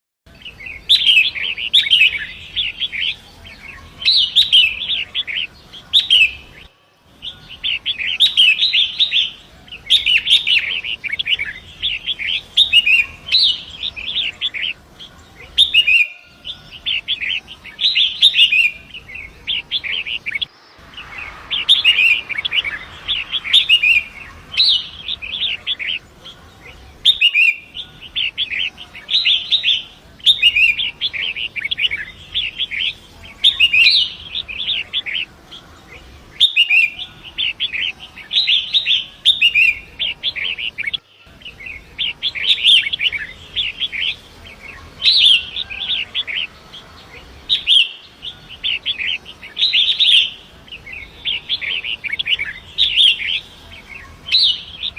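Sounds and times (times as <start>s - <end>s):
bird chattering song: 0.3s - 54.9s.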